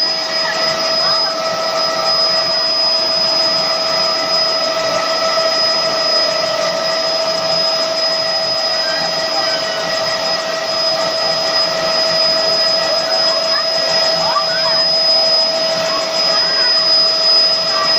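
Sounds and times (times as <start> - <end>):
helicopter turbine and rotor: 0.0 - 17.9.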